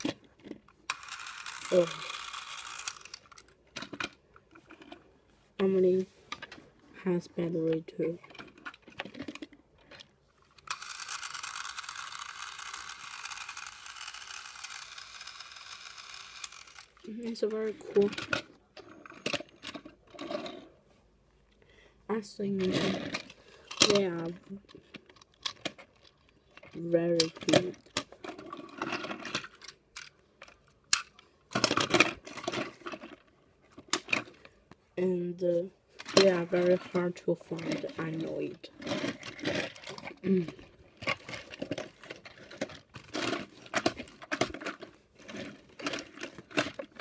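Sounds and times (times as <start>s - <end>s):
toy train motor whirring: 0.0s - 4.9s, 8.4s - 20.6s, 22.5s - 33.2s, 36.0s - 47.0s.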